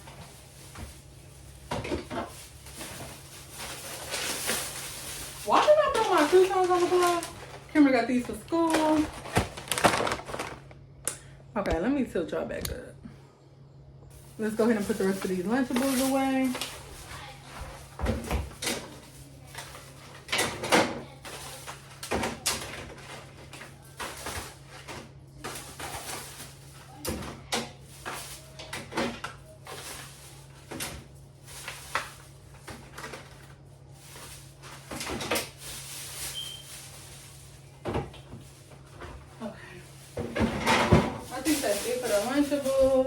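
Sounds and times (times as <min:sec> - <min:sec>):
packages knocking and rustling: 0:00.0 - 0:10.9, 0:14.2 - 0:43.0
refrigerator hum: 0:00.0 - 0:43.0.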